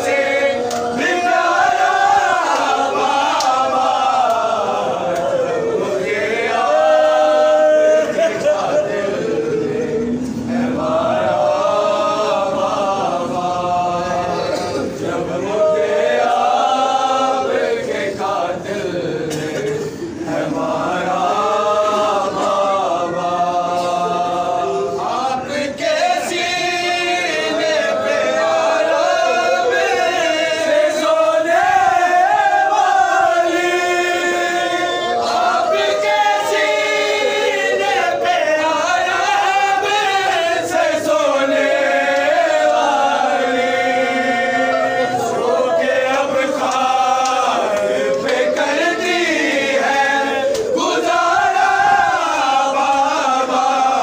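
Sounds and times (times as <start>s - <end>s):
men chanting in unison: 0.0s - 54.0s.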